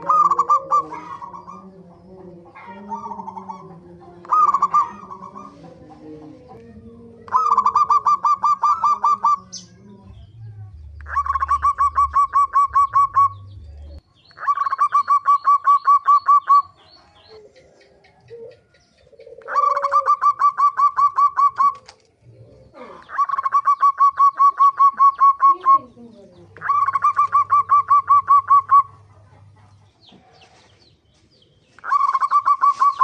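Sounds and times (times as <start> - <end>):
dove rapid repeated call: 0.0 - 10.2, 11.0 - 22.1, 23.0 - 30.0, 31.7 - 33.0.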